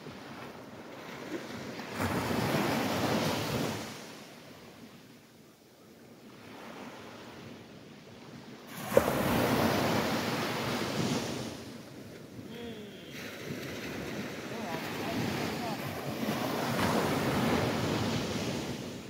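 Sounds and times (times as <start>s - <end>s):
small waves breaking: 0.0s - 5.2s, 5.9s - 19.0s.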